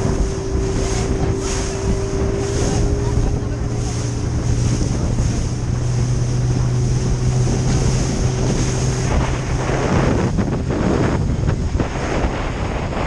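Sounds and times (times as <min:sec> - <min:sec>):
boat motor humming: 0:00.0 - 0:13.0
water rushing past hull: 0:00.0 - 0:13.0
wind buffeting microphone: 0:00.0 - 0:13.0.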